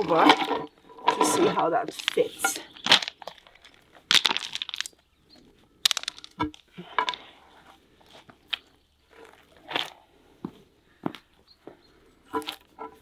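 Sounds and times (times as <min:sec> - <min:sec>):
gravel crunching and rattling: 0:00.0 - 0:13.0.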